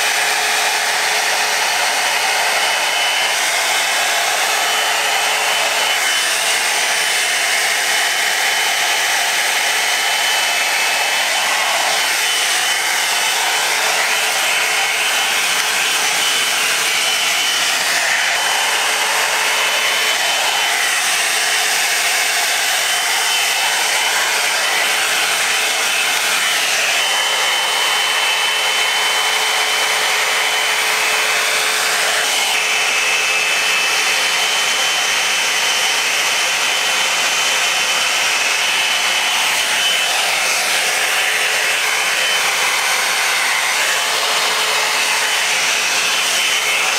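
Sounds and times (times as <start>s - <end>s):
blow-dryer brush running: 0.0s - 46.9s.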